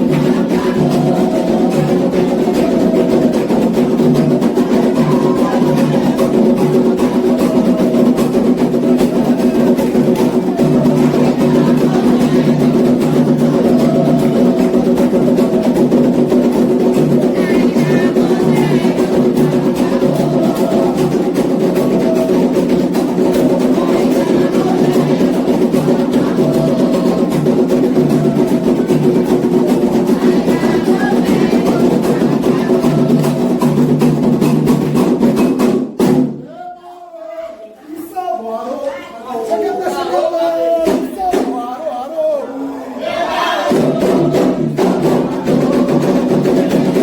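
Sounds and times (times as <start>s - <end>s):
voices singing a chant: 0.0s - 35.6s, 36.4s - 47.0s
hand drums beating: 0.0s - 36.4s, 40.7s - 41.6s, 43.6s - 47.0s.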